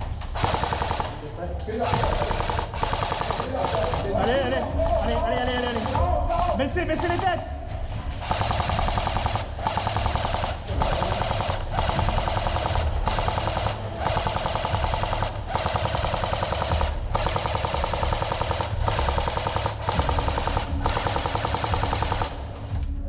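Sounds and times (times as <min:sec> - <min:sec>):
airsoft guns firing full auto: 0:00.0 - 0:07.4, 0:08.1 - 0:22.7.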